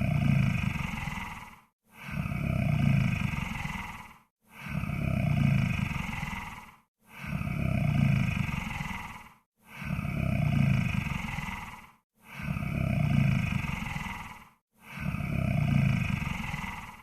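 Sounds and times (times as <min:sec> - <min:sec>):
deep growling snore: 0:00.0 - 0:17.0.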